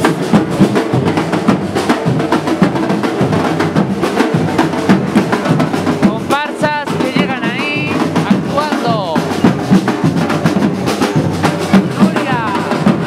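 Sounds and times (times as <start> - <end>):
drum group playing: 0.0 - 13.0.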